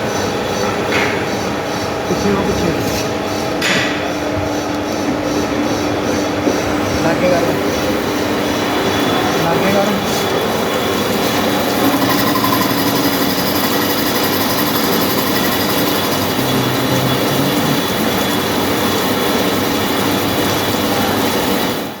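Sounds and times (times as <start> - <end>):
turning machines running: 0.0 - 22.0.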